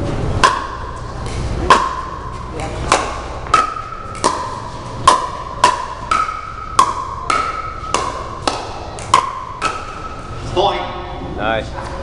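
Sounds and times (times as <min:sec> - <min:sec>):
paddles hitting plastic ball: 0:00.4 - 0:10.3.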